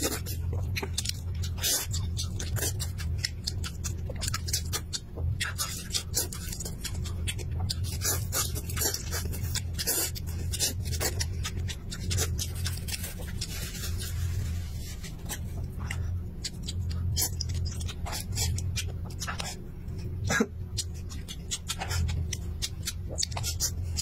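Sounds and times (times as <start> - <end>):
chewing and lip-smacking: 0.0 - 24.0
low hum: 0.0 - 24.0.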